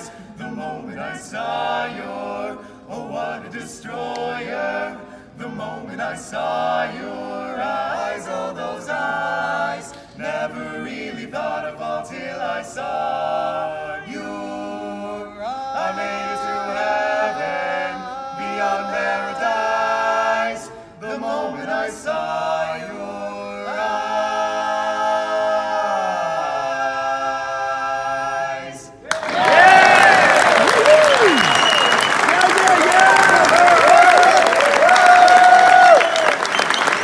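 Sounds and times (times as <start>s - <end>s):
male voices singing in harmony: 0.0s - 32.0s.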